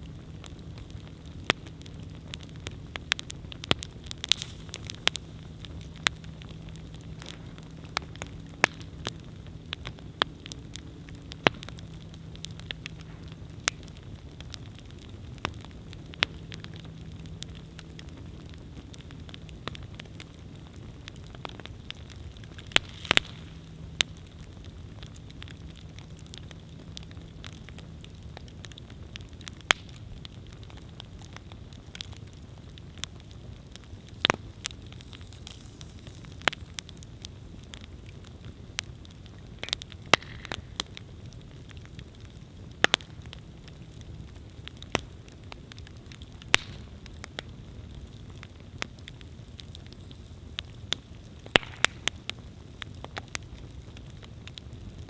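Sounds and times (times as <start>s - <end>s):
campfire flames rushing: 0.0s - 55.0s
fire crackling and popping: 0.0s - 55.0s.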